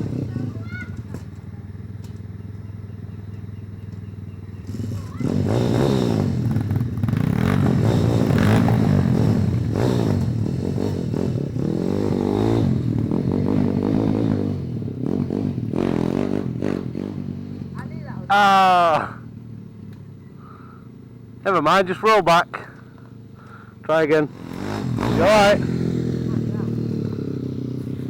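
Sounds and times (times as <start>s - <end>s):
pit bike engine revving: 0.0s - 28.0s.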